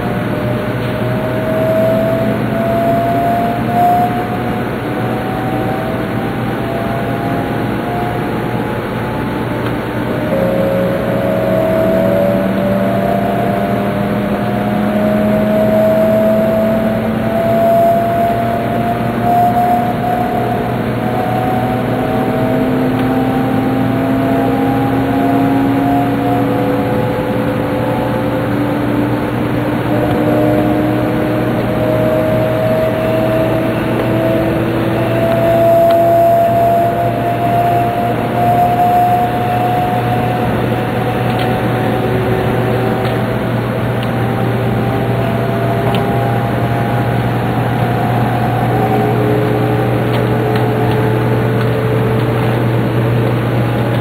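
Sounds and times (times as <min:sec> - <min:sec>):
rumble of wheels on rail: 0:00.0 - 0:54.0
train motor whine rising in pitch: 0:00.0 - 0:54.0.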